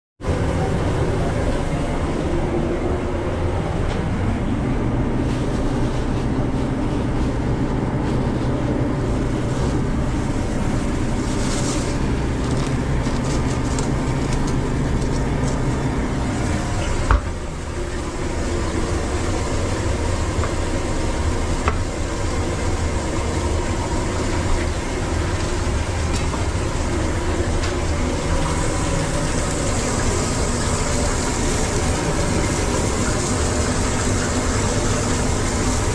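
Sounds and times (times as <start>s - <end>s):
kitchen machinery drone: 0.2s - 35.9s.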